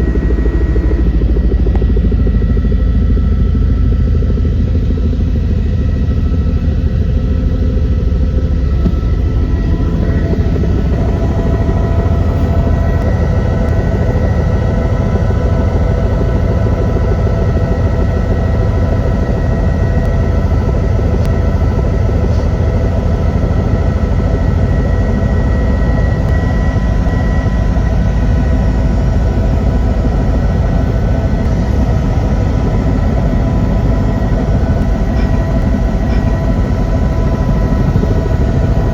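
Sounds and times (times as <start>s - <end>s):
helicopter rumble: 0.0s - 38.9s
helicopter whining tones: 0.0s - 38.9s.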